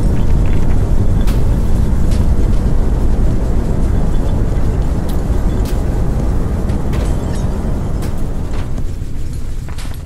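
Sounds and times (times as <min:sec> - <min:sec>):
loud low rumble: 0:00.0 - 0:10.0.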